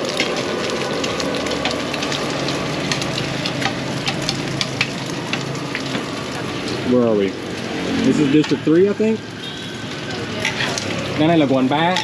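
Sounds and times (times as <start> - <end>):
hot oil sizzling and crackling: 0.0 - 12.0
oil popping: 0.0 - 12.0.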